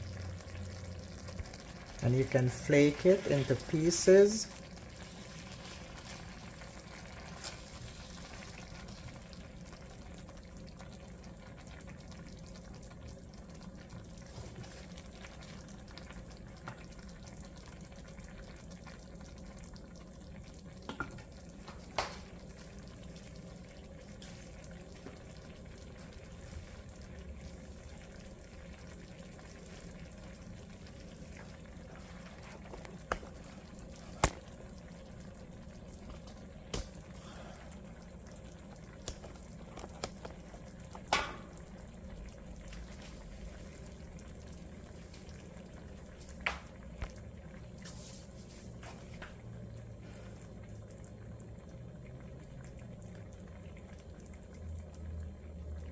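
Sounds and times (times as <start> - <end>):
broth simmering in a pot: 0.0 - 55.9.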